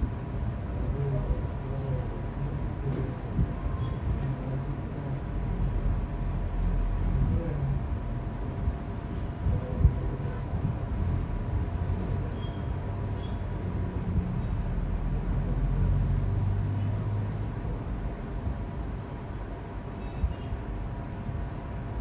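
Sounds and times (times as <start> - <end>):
faint constant hum: 0.0 - 22.0.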